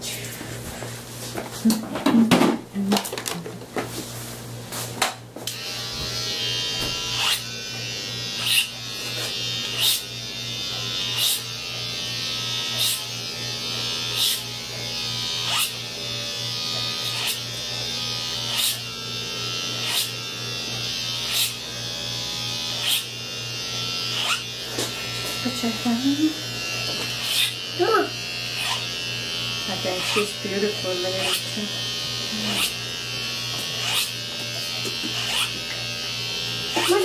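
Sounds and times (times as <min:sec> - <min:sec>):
electric hair clipper buzzing: 0:04.8 - 0:37.0.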